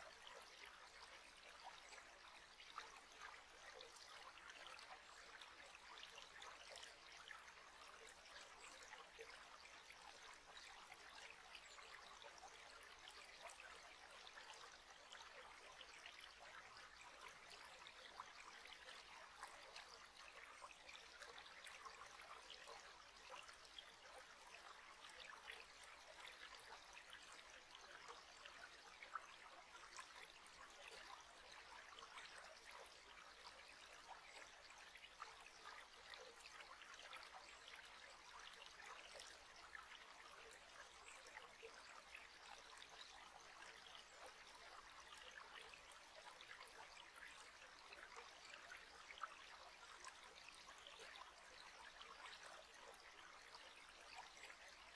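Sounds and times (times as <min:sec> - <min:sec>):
faint trickling water: 0:00.0 - 0:54.9.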